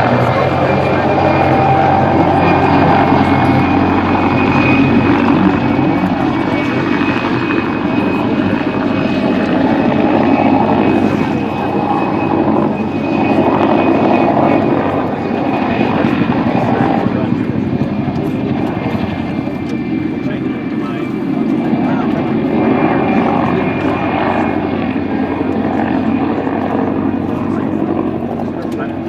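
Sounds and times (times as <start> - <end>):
helicopter engine whine: 0.0 - 29.0
helicopter rotor noise: 0.0 - 29.0.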